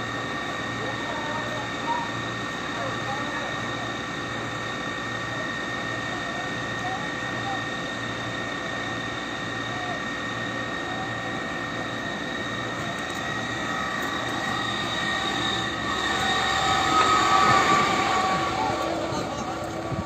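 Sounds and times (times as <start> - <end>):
tanker engine and water pump running: 0.0 - 20.0.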